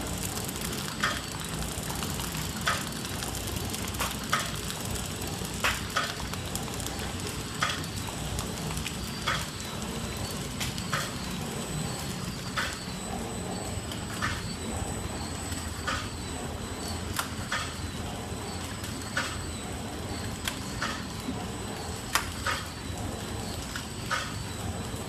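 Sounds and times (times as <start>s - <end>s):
machine clacking: 0.0s - 14.6s, 15.2s - 25.0s
packaging machine whirring: 0.0s - 25.0s.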